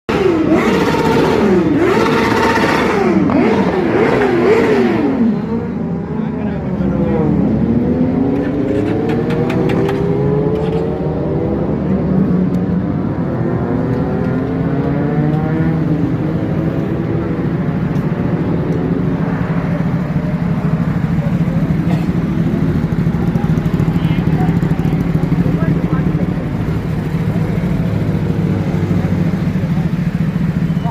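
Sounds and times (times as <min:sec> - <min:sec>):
motorbike engine accelerating: 0:00.1 - 0:30.9.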